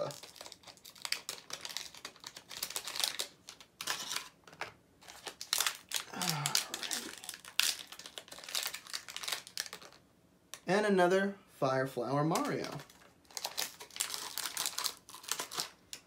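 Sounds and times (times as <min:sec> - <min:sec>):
packaging crinkling and tearing: 0:00.0 - 0:10.0, 0:12.3 - 0:16.0.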